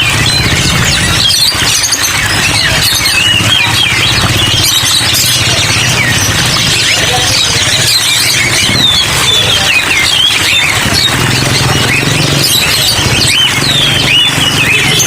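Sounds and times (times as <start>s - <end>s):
songbirds chirping and whistling: 0.0s - 15.0s.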